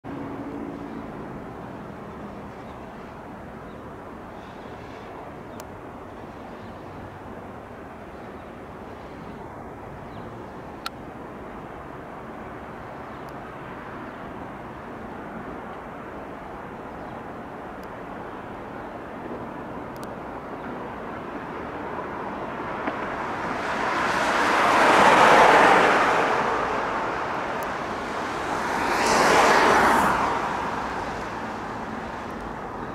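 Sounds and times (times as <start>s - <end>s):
distant traffic hum: 0.0s - 32.9s.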